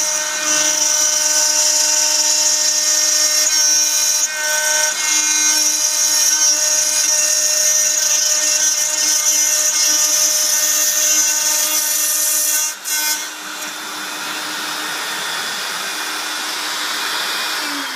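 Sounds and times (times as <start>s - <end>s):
router spindle cutting plastic: 0.0s - 17.9s.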